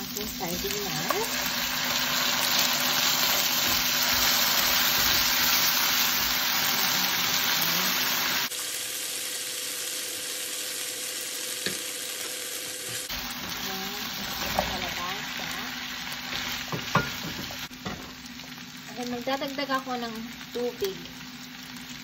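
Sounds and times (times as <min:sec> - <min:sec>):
onions sizzling in a wok: 0:00.0 - 0:22.0.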